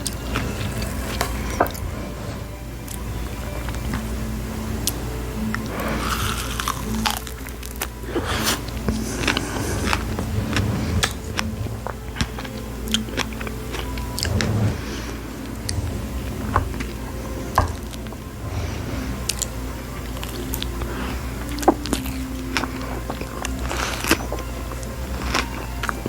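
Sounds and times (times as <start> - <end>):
chewing strawberries: 4.8 - 26.0.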